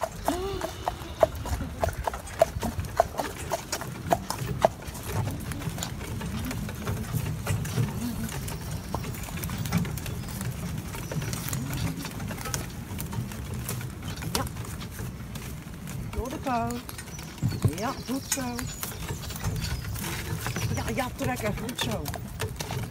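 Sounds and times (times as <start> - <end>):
horse hooves clip-clopping: 0.0 - 22.9.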